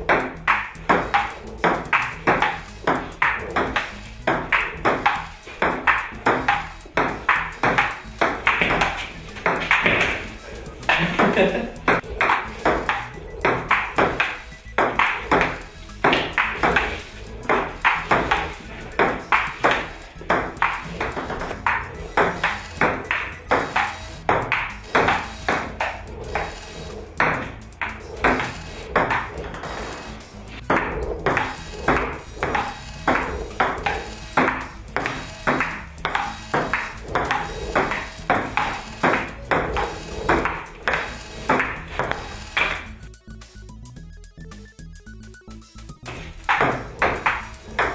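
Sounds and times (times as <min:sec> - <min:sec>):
table tennis ball clicking: 0:00.0 - 0:43.0, 0:46.1 - 0:47.9
background music: 0:00.0 - 0:47.9.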